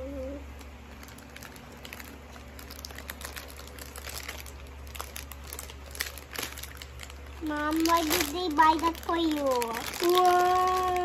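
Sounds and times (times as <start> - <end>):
cellophane crinkling: 0.3 - 11.0.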